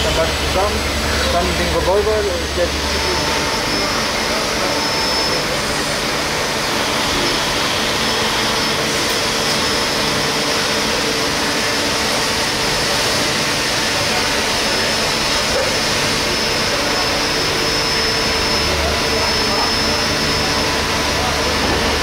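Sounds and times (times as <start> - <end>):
lathe whooshing hum: 0.0 - 22.0.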